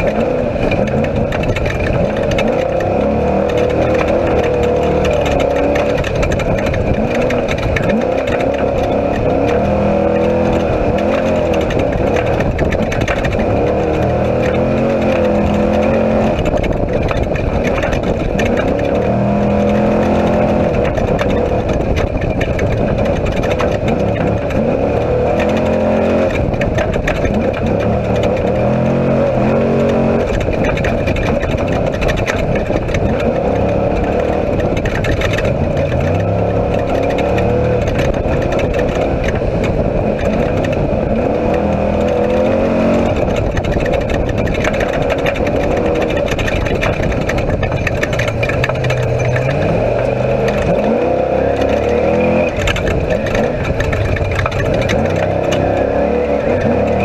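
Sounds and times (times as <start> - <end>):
race vehicle engine revving: 0.0 - 57.0
wind tyre and chassis noise: 0.0 - 57.0.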